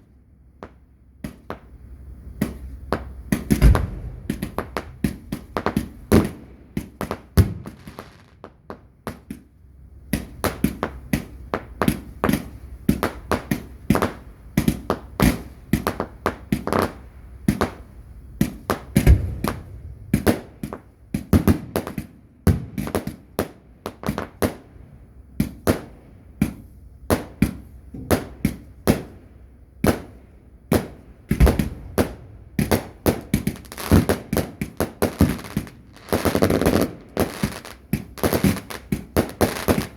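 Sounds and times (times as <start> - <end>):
fireworks bangs and thuds: 0.0 - 39.9.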